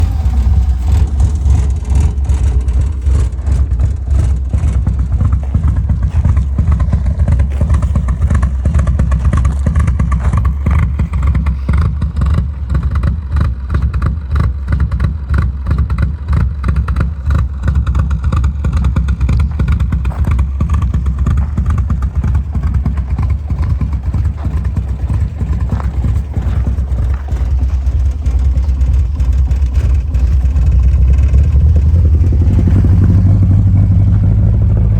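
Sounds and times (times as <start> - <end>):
car engine exhaust note: 0.0 - 34.9.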